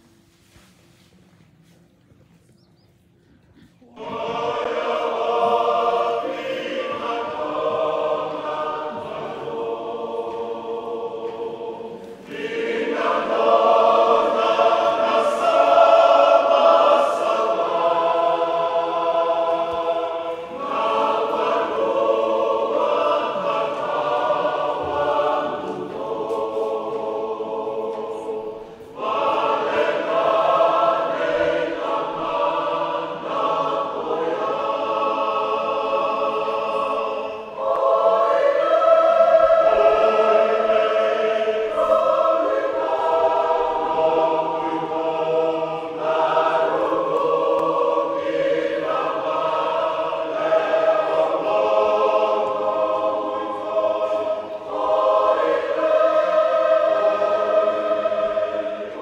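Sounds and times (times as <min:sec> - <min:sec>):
choir singing a hymn: 0:03.8 - 0:59.0.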